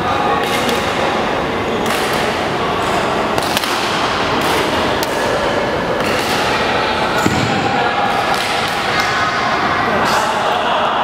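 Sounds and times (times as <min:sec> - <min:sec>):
indoor sports hall background noise: 0:00.0 - 0:11.0.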